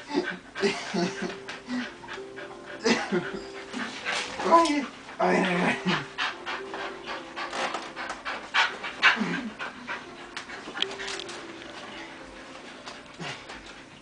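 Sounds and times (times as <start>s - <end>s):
dog panting fast: 0.0s - 11.2s.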